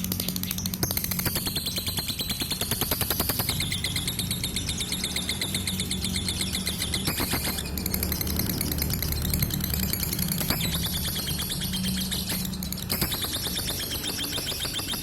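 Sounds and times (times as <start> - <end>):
lovebird chattering trill: 0.0 - 15.0
steady low hum: 0.0 - 15.0.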